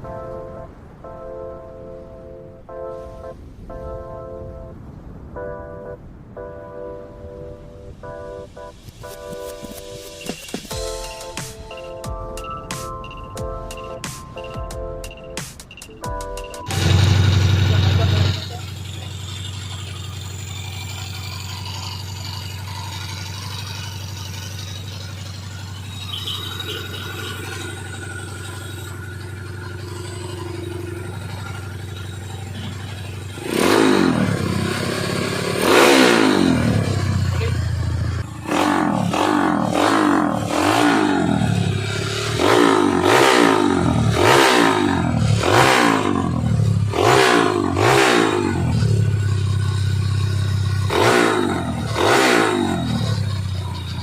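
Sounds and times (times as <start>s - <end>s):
motorcycle throttle blips: 8.8s - 54.0s
motorcycle engine idling: 9.4s - 54.0s.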